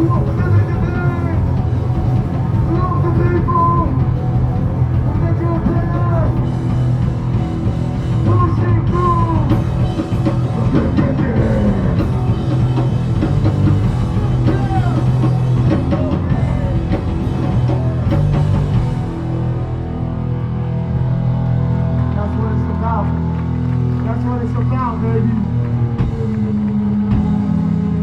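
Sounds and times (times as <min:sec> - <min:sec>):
pounding drum kit: 0:00.0 - 0:19.9, 0:24.2 - 0:28.0
bass guitar: 0:00.0 - 0:28.0
heavy distorted guitars: 0:00.0 - 0:28.0.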